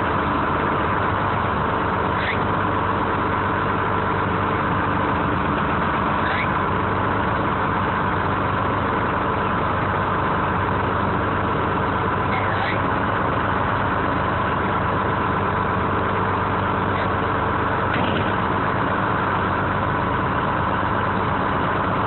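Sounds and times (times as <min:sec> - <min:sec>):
crane engine running: 0:00.0 - 0:22.0.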